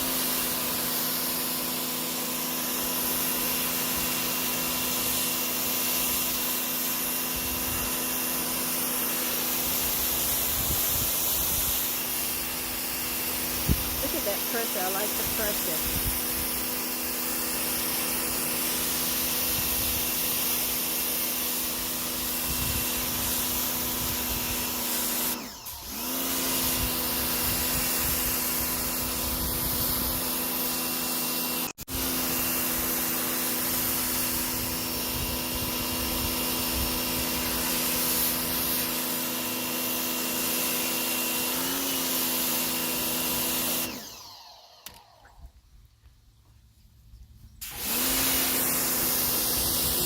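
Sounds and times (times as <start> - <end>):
high-pressure water spray hissing: 0.0 - 44.2, 47.6 - 50.0
pressure washer pump humming: 0.0 - 45.4, 47.6 - 50.0.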